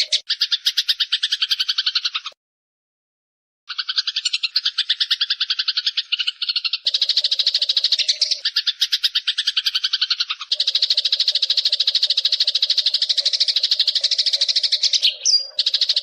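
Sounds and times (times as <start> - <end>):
sparrow chattering trill: 0.0 - 2.4, 3.7 - 16.0.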